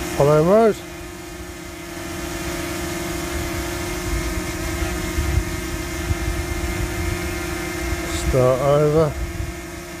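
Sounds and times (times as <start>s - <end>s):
drone propellers humming: 0.0s - 10.0s.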